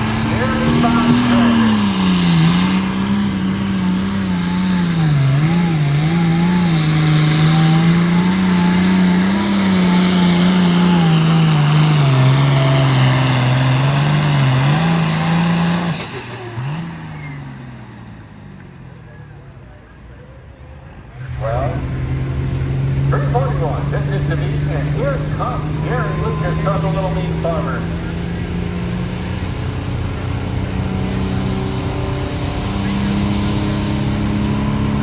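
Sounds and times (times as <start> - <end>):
puller engine labouring under load: 0.0 - 35.0.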